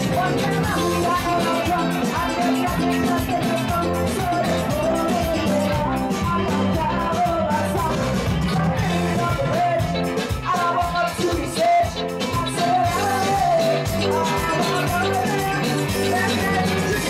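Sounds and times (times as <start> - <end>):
live band playing upbeat song: 0.0 - 17.0.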